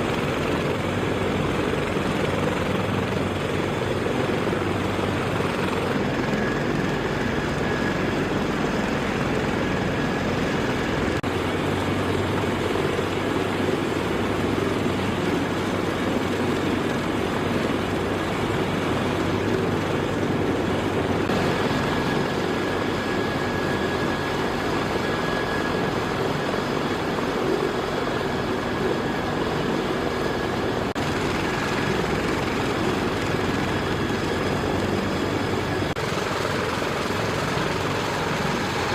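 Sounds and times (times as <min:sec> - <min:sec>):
helicopter rotor and engines: 0:00.0 - 0:38.9.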